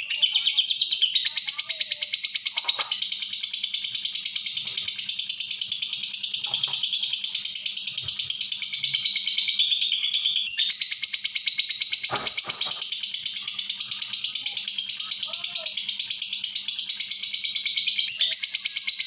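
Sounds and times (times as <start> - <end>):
lovebird chattering trill: 0.0 - 19.0.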